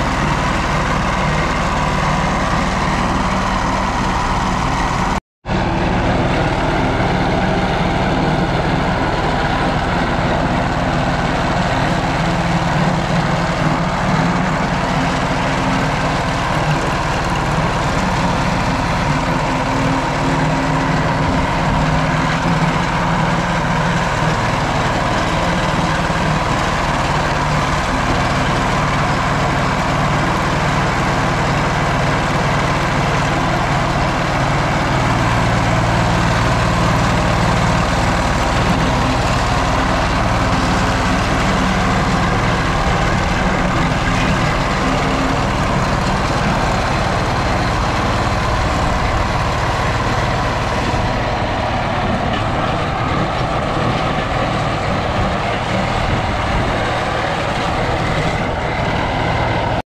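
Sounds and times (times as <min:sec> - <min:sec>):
plate compactor engine running: 0:00.0 - 0:59.8.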